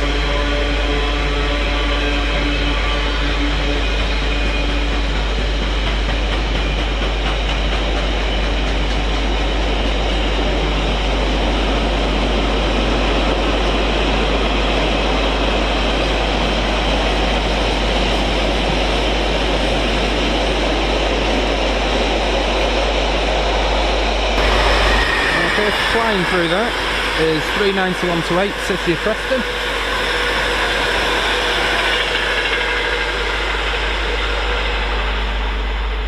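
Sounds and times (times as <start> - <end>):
train passing at speed: 0.0 - 36.0.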